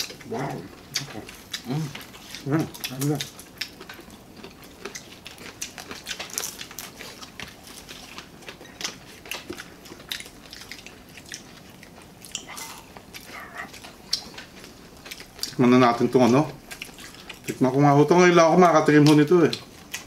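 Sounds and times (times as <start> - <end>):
people chewing crunchy food: 0.0 - 20.0.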